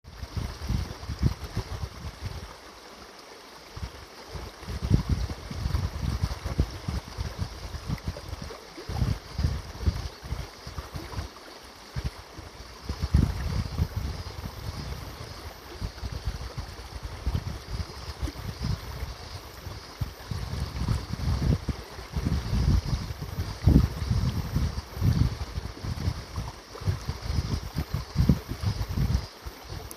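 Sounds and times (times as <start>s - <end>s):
wind rumbling on microphone: 0.0s - 29.9s
cicadas droning: 0.1s - 29.9s
river water flowing: 0.1s - 29.9s.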